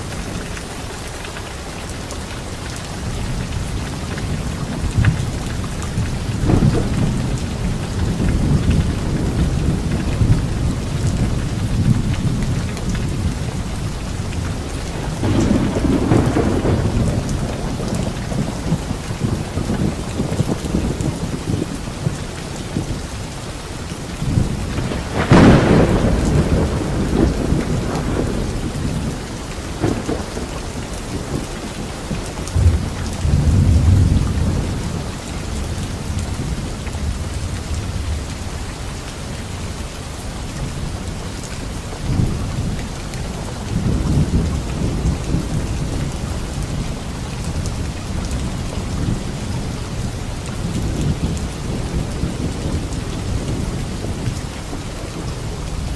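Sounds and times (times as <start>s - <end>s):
steady rain falling: 0.0s - 55.9s
thunder rumbling: 3.0s - 55.9s.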